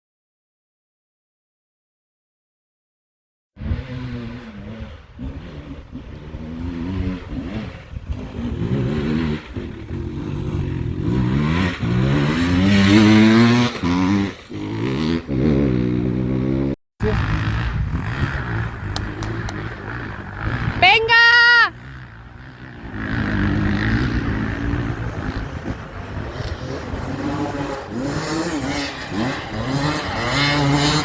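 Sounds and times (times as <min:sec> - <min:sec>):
motorcycle engine revving: 0:03.6 - 0:31.0.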